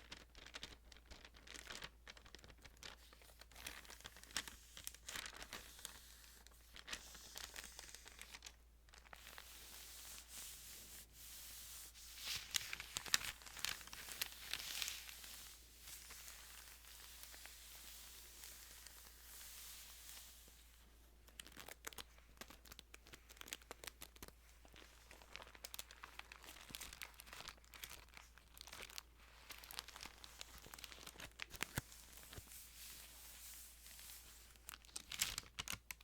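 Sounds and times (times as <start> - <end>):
thin pages crinkling and rustling: 0.0 - 36.0.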